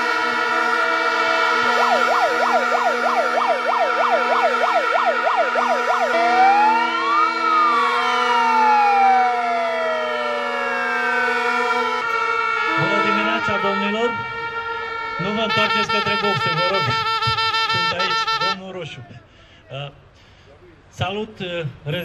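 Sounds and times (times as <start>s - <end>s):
electronic siren yelp and wail: 0.0s - 18.6s.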